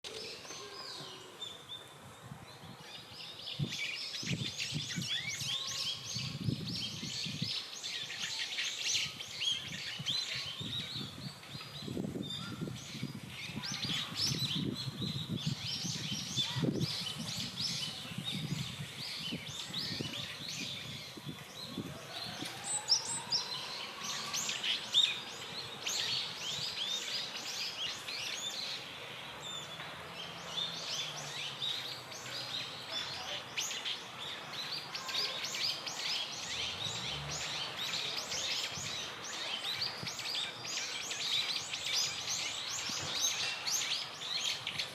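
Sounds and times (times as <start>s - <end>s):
birds chirping and calling: 2.8s - 44.9s.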